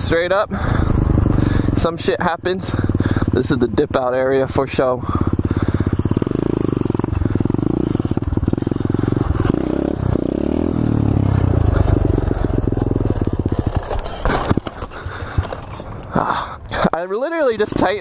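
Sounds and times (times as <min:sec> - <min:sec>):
motorbike engine under throttle: 0:00.0 - 0:16.8.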